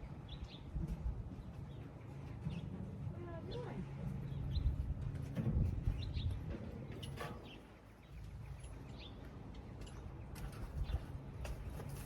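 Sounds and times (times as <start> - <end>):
low rumbling background noise: 0.0 - 12.0
small birds chirping: 0.0 - 12.0.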